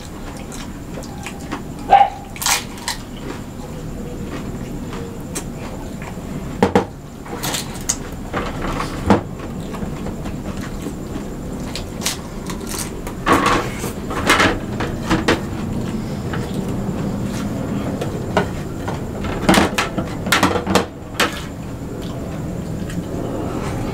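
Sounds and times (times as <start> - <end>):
room noise: 0.0 - 23.9.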